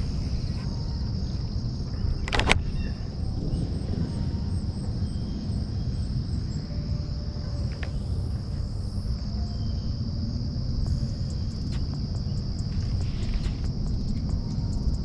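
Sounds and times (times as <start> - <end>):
insects trilling: 0.0 - 15.0
low rumble: 0.0 - 15.0.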